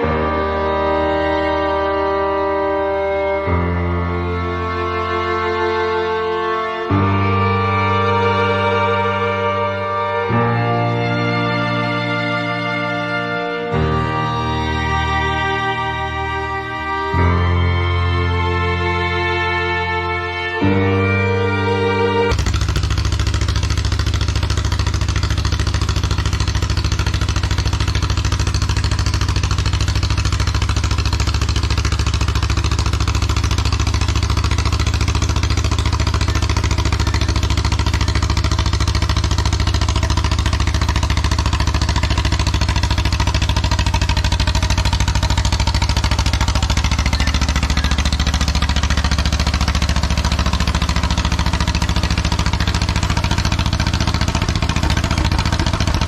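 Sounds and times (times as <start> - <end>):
dozer engine running: 0.0 - 56.0.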